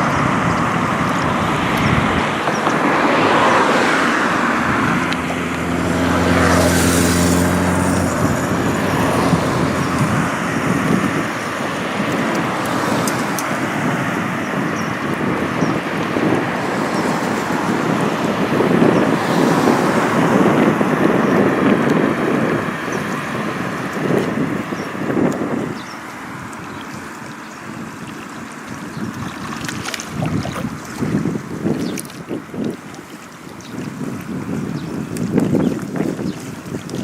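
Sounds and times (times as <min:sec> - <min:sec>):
tyre and wind noise: 0:00.0 - 0:37.0
vehicle engine hum: 0:00.0 - 0:37.0.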